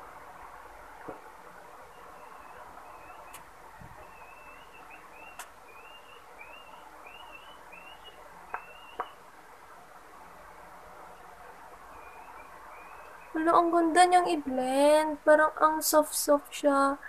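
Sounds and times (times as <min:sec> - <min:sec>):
faint bird chirping: 0:00.0 - 0:09.3, 0:10.4 - 0:17.0
steady background hiss: 0:00.0 - 0:17.0.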